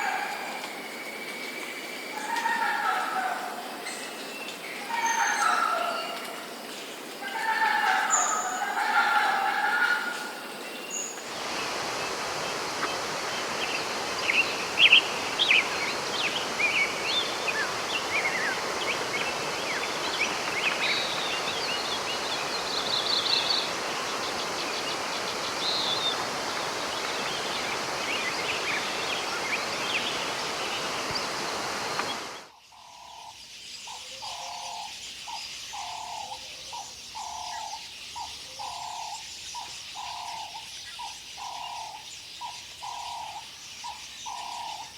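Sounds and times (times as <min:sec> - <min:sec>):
forest ambience hiss: 0:00.0 - 0:44.9
jungle birds chirping: 0:00.0 - 0:44.9.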